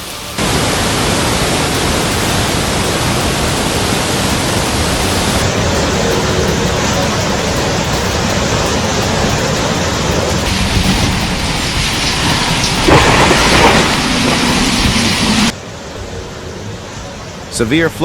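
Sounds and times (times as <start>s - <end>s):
heavy rain: 0.0s - 15.6s.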